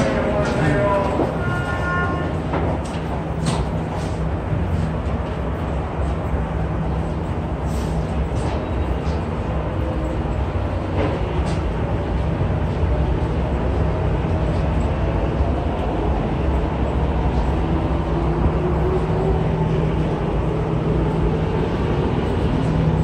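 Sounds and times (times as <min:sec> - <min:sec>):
subway platform rumble and hum: 0:00.0 - 0:23.0.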